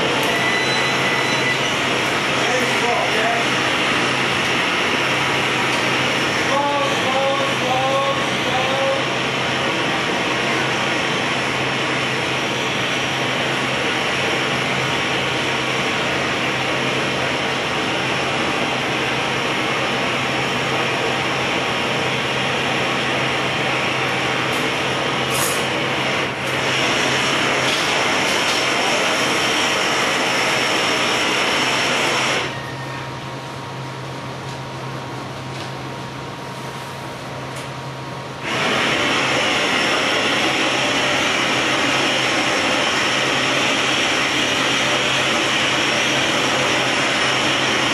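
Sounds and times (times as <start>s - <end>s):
roar of gas burners: 1.5s - 32.6s, 38.4s - 47.9s.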